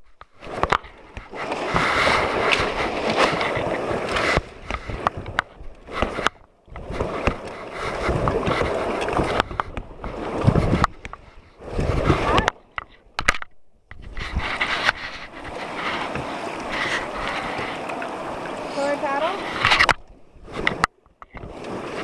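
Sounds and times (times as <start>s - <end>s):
river water splashing around raft: 0.3s - 13.1s, 14.1s - 22.0s.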